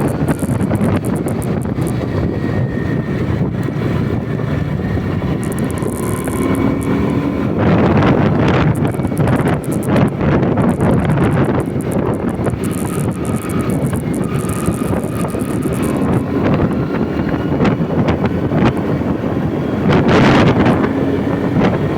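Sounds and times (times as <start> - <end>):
vehicle road noise: 0.0 - 21.9
wind buffeting on microphone: 0.0 - 21.9.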